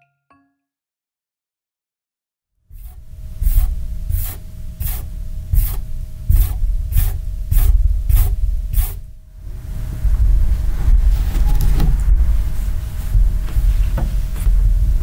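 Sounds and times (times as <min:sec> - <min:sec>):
low rumble: 0:02.8 - 0:15.0.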